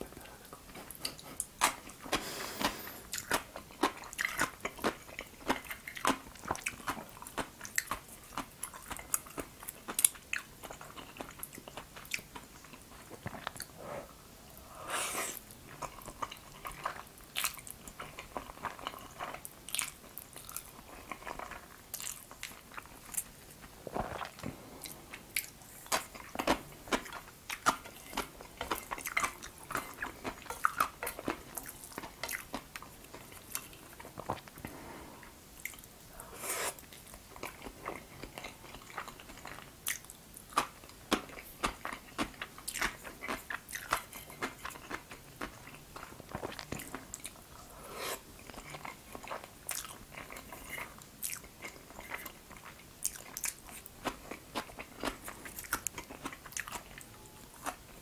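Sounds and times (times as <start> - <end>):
crunching and chewing: 0.1 - 13.7, 15.3 - 58.0.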